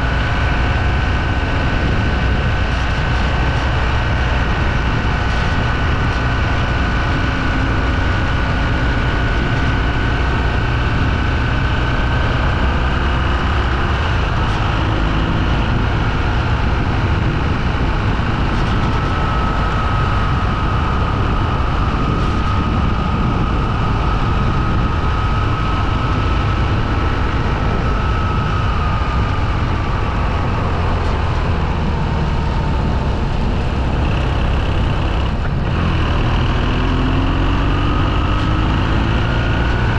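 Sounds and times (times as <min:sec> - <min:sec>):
motorcycle engine running: 0:00.0 - 0:39.9
rushing noise: 0:00.0 - 0:39.9.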